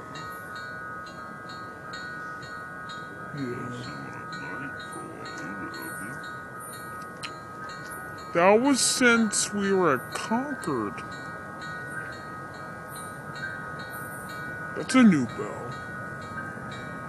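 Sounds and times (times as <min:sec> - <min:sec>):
locomotive bell ringing: 0:00.0 - 0:17.0.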